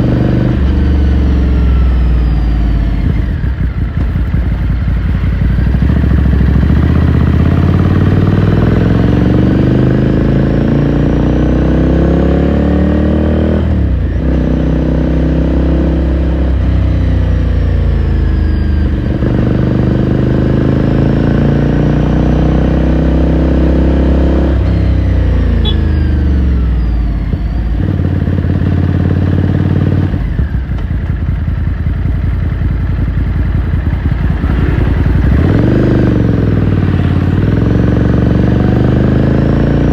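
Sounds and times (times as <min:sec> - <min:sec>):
motorcycle engine shifting up: 0:00.0 - 0:11.6, 0:13.4 - 0:39.9.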